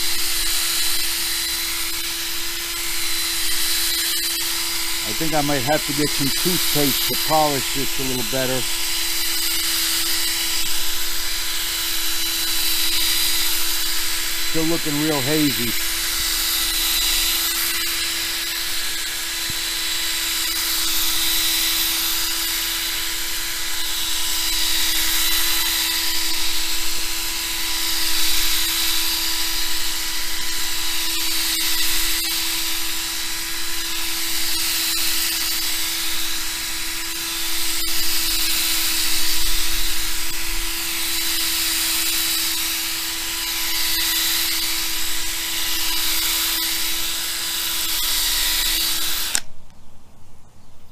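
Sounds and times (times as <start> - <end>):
power drill motor whine: 0.0 - 49.5.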